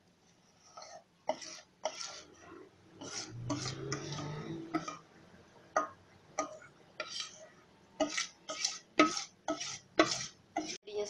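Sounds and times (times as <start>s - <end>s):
mixing bowl clinking and scraping: 0.6s - 5.1s, 5.8s - 10.8s.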